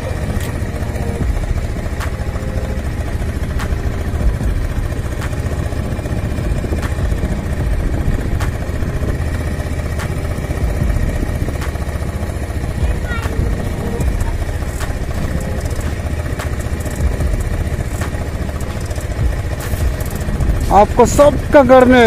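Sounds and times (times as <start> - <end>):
faint ticking: 0.0 - 22.0
motorcycle engine rumbling: 0.0 - 22.0.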